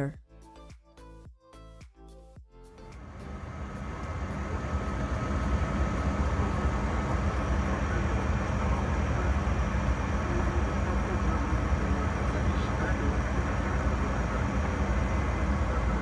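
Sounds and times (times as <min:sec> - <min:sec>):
faint steady whine: 0:02.9 - 0:16.0
jet airliner cabin drone: 0:02.9 - 0:16.0.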